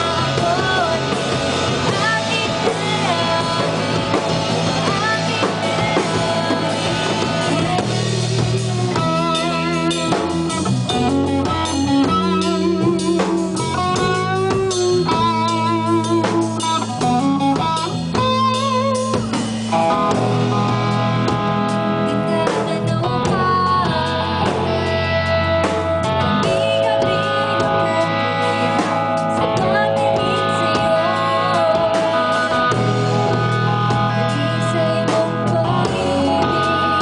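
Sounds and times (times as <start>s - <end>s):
drum kit: 0.0s - 37.0s
electric guitar lead notes: 0.0s - 37.0s
rock band playing live: 0.0s - 37.0s.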